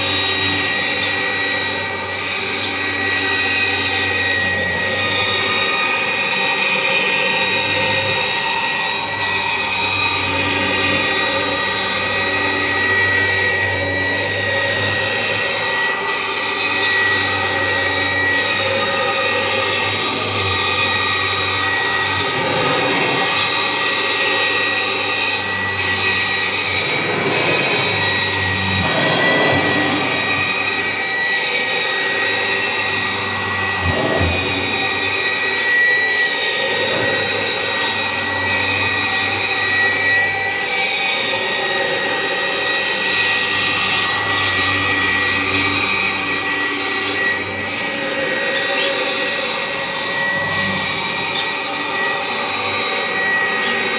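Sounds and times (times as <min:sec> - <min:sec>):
upright vacuum running on carpet: 0:00.0 - 0:53.9.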